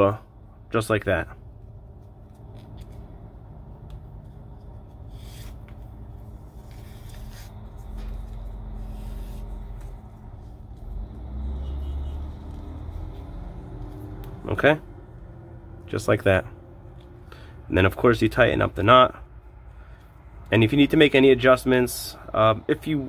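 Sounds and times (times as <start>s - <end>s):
low steady rumble: 0.0s - 22.3s.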